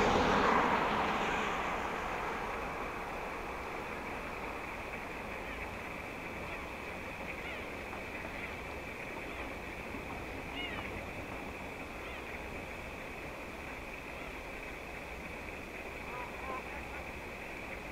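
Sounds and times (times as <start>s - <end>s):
hiss and rumble over open water: 0.0s - 17.9s.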